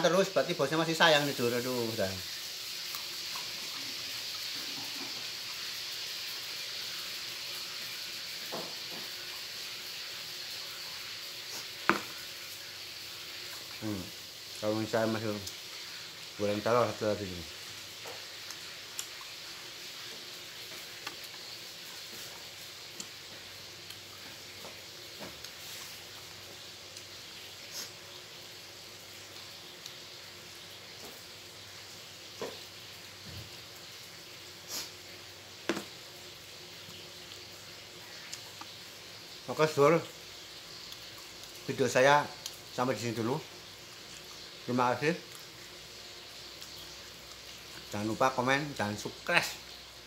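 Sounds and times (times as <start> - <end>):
steady background hiss: 0.0 - 50.0.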